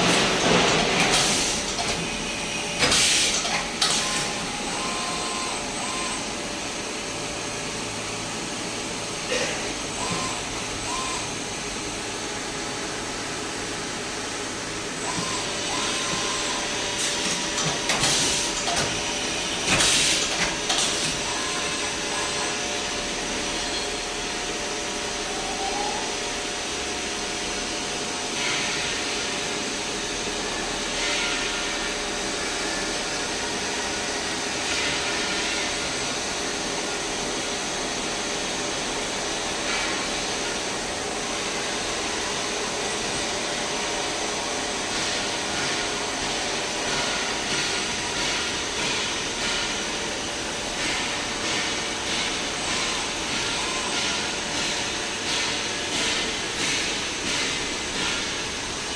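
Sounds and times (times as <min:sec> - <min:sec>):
milling machine whirring and whining: 0:00.0 - 0:58.9.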